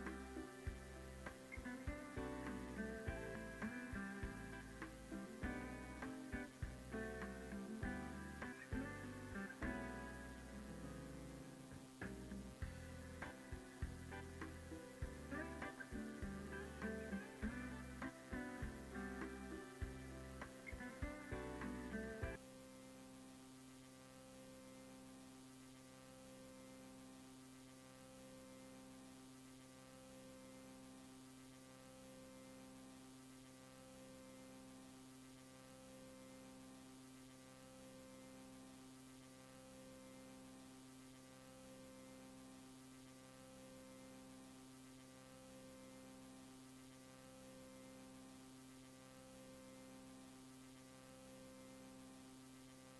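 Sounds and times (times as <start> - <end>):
faint electrical hum: 0.0 - 52.9.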